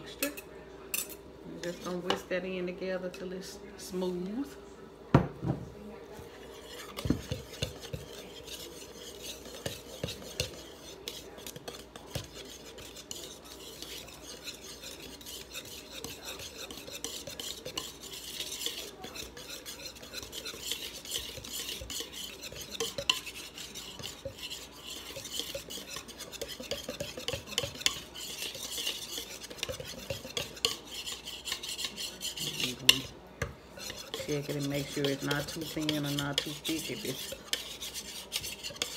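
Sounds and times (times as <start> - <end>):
whisk scraping against bowl: 0.0 - 3.2, 6.1 - 38.9.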